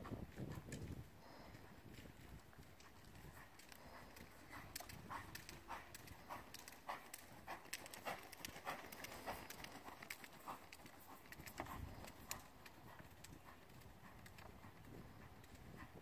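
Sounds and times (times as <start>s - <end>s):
hoofbeats on soft ground: 0.0s - 16.0s.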